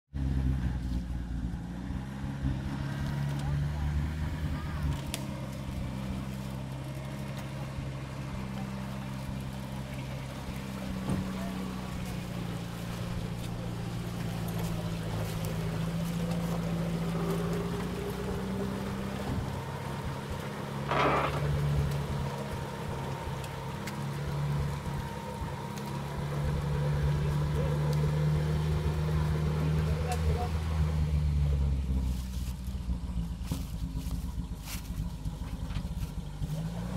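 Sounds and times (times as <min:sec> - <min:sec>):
off-road vehicle engine under load: 0:00.0 - 0:36.9
mud sloshing around wheels: 0:00.2 - 0:36.9.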